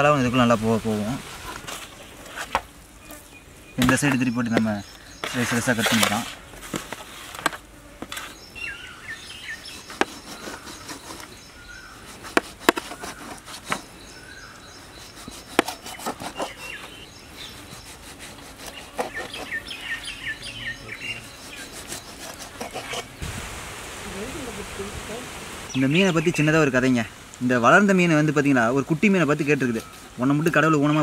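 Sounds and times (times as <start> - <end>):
birds chirping: 0.0 - 6.4, 8.1 - 31.0.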